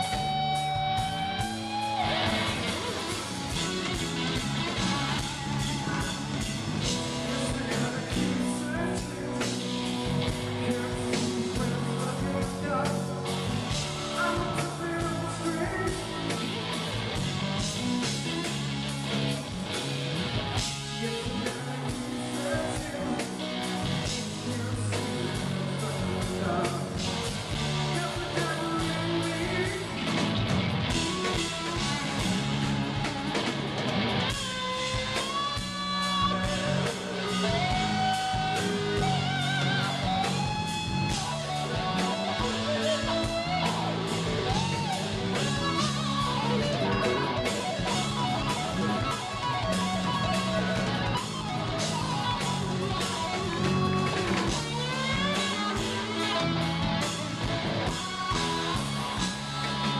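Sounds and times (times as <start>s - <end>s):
male lead vocal: 0.0s - 19.6s, 20.4s - 33.4s, 34.3s - 59.9s
bass and drums: 0.0s - 59.9s
electric guitar: 0.0s - 59.9s.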